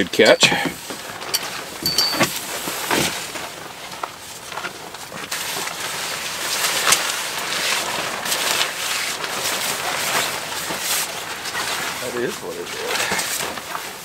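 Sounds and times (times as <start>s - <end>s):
tarp rustling and flapping: 0.9s - 14.0s.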